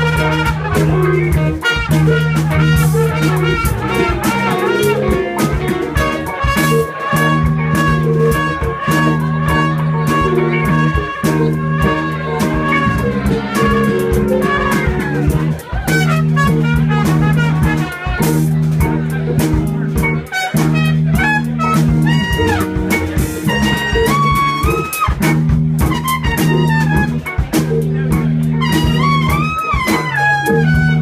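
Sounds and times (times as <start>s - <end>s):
drum kit: 0.0s - 31.0s
electric guitar: 0.0s - 31.0s
live band playing: 0.0s - 31.0s
trumpet melody: 0.0s - 31.0s.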